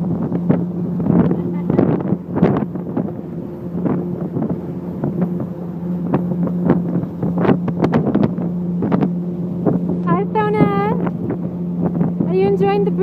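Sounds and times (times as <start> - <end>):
motorboat engine humming: 0.0 - 13.0
wind buffeting microphone: 0.0 - 13.0.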